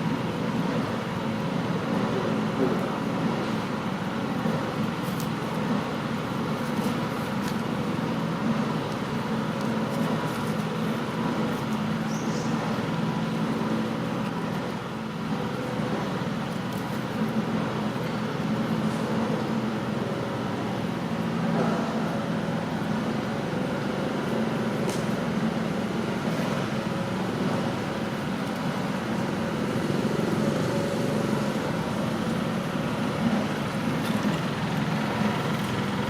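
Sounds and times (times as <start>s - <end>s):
low mechanical drone: 0.0s - 36.0s.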